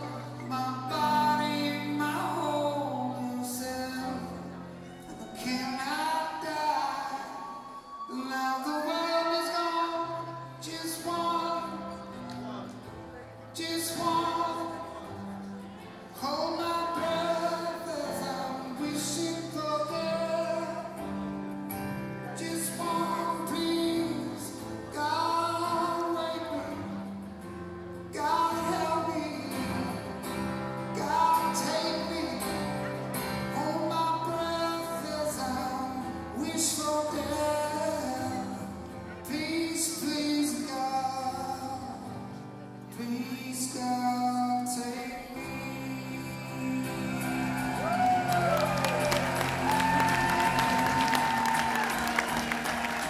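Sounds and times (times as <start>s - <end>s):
acoustic guitar: 0.0s - 53.0s
man singing: 0.0s - 53.0s.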